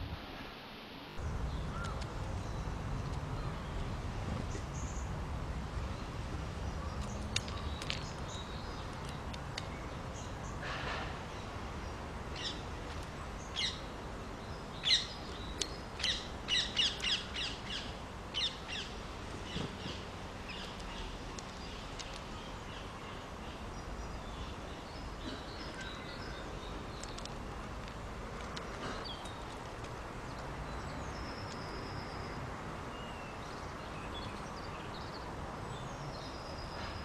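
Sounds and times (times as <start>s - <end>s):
low background noise: 0.0s - 37.0s
small birds chirping: 1.2s - 5.2s, 5.8s - 37.0s.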